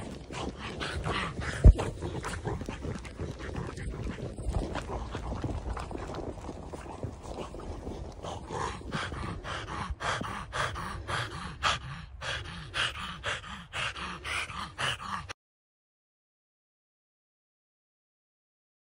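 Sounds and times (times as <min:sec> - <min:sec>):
dog panting with grunts: 0:00.0 - 0:15.4.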